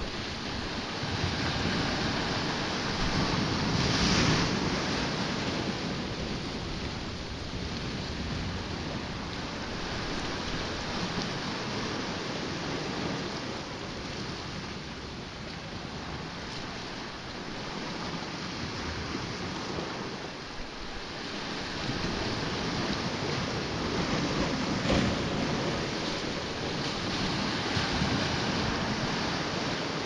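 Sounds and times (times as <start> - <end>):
sea washing against rocky shore: 0.0 - 30.0
wind buffeting microphone: 0.0 - 30.0.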